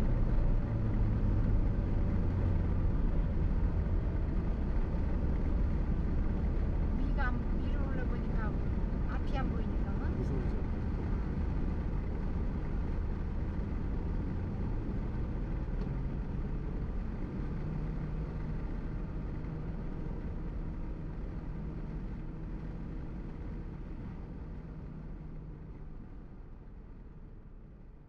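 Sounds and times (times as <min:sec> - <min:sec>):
car road and engine noise: 0:00.0 - 0:28.0
low steady hum: 0:00.0 - 0:28.0.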